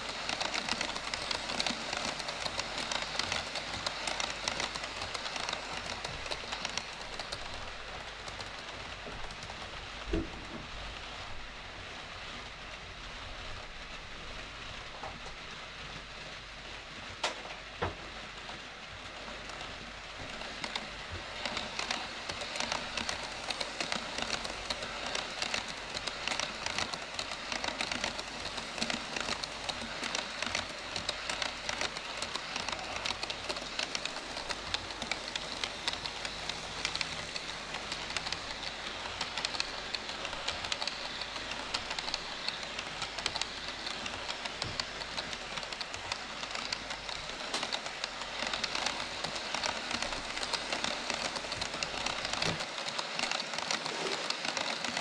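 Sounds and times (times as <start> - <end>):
model train wheels rattling on rails: 0.0 - 55.0.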